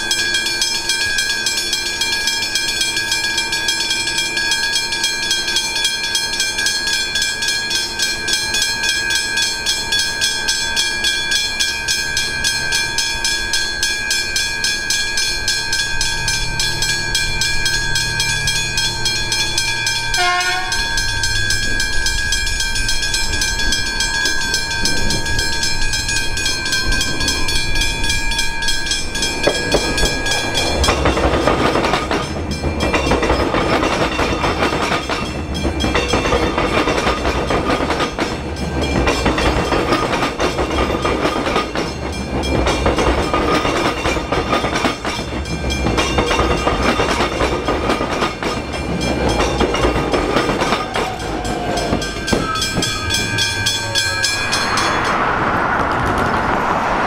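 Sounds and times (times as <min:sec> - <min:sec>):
high electric train tones: 0:00.0 - 0:57.0
train wheels rumbling on rails: 0:00.0 - 0:57.0.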